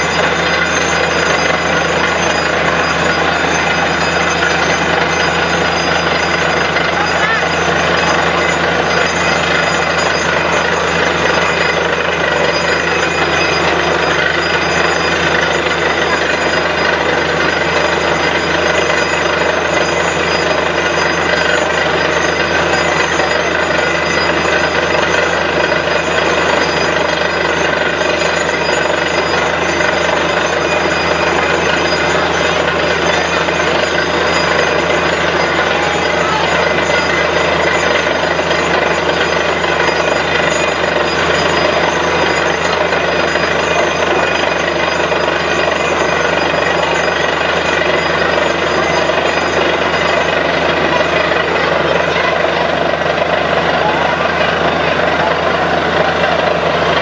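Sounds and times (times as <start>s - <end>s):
drilling rig engine and drill: 0.0s - 57.0s.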